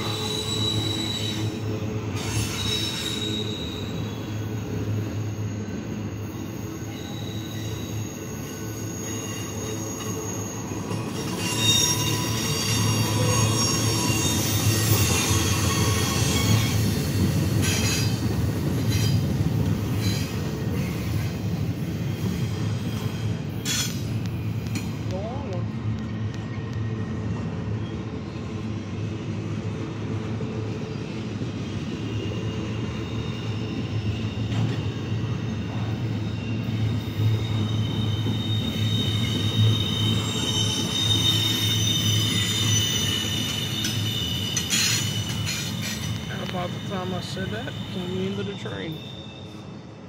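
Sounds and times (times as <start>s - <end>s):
high-pitched metallic squealing: 0.0s - 24.9s, 31.7s - 49.9s
train wheels rumbling on rails: 0.0s - 50.0s.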